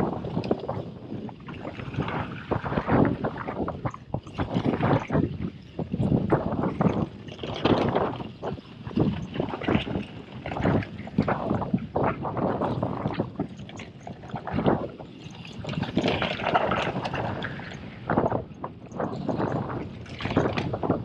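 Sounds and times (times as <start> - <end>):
rolling and wind noise: 0.0 - 21.0.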